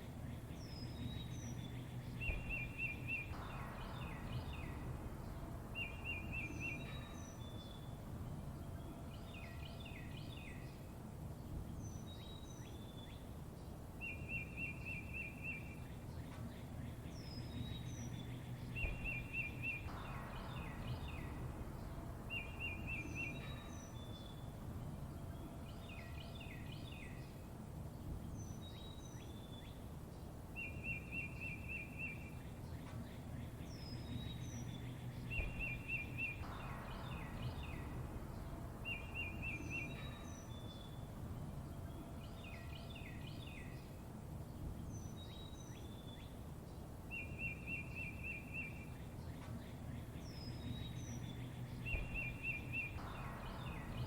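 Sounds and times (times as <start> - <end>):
low background rumble: 0.0 - 54.0
songbirds chirping and trilling: 0.0 - 54.0.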